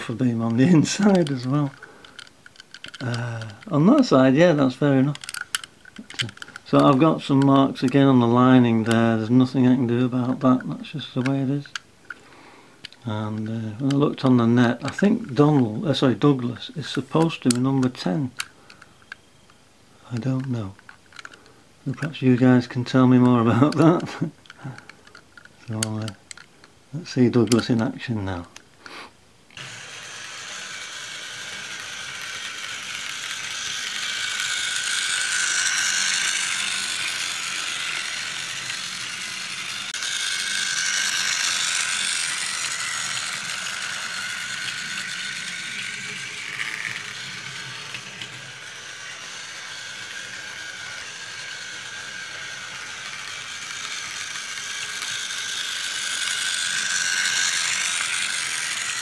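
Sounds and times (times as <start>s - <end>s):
toy train motor whirring: 0.0s - 59.0s.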